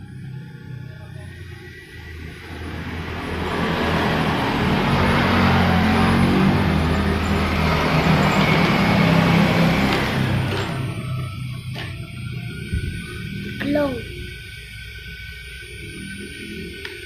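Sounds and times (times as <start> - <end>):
electric ducted fan rushing: 0.0 - 17.0.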